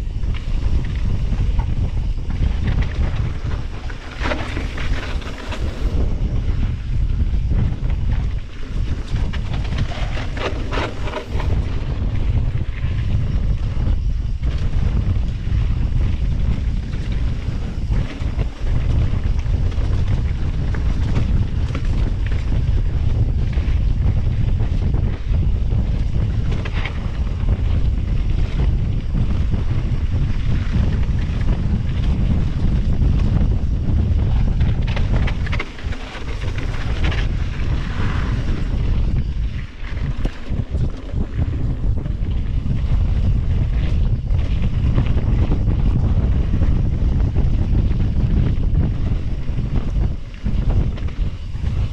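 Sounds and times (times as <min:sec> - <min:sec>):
bike clicks and rattles: 0:00.0 - 0:51.9
wind buffeting microphone: 0:00.0 - 0:51.9.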